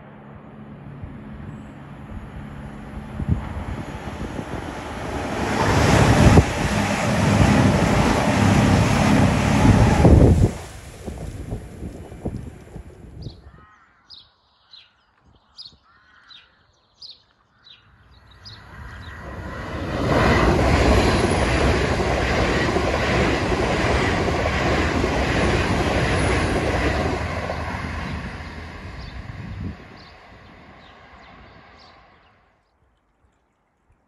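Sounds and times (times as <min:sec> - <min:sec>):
passenger train rushing past: 0:00.0 - 0:13.3, 0:18.3 - 0:32.5.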